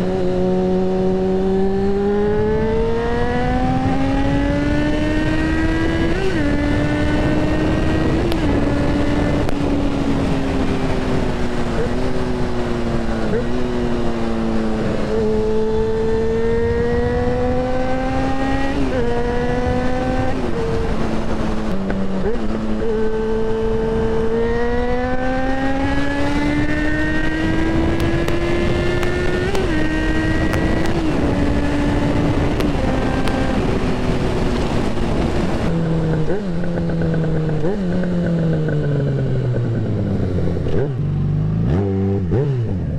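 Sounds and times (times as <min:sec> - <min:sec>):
motorcycle engine accelerating: 0:00.0 - 0:42.9
wind noise: 0:00.0 - 0:42.9.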